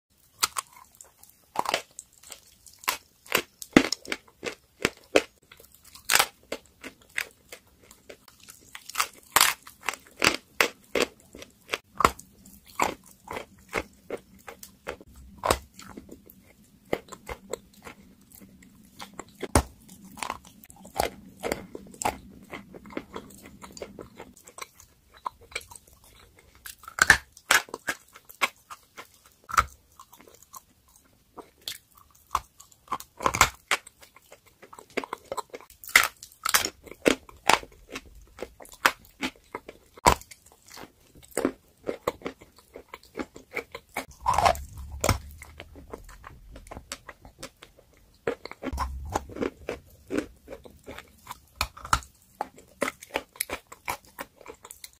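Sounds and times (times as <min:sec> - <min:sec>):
crunchy chewing of chalk: 0:00.2 - 0:54.9.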